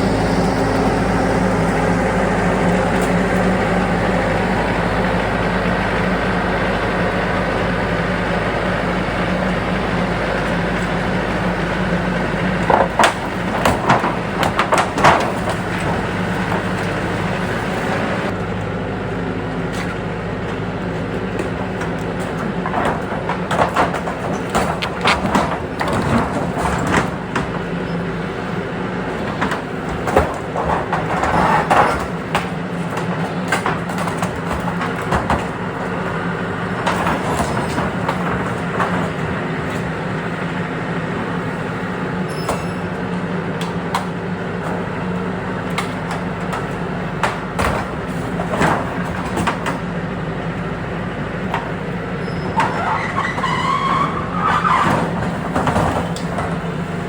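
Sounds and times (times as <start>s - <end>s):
tractor diesel engine running: 0.0s - 57.0s
clanks and rattles: 8.4s - 18.6s, 19.7s - 50.2s, 51.0s - 57.0s.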